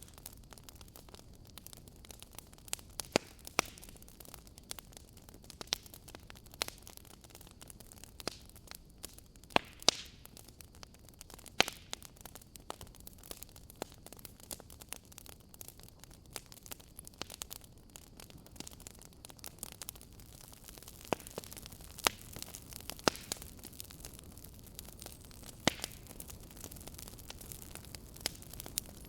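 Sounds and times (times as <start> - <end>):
faint steady hiss: 0.0 - 29.0
fireplace crackling and popping: 0.0 - 29.0.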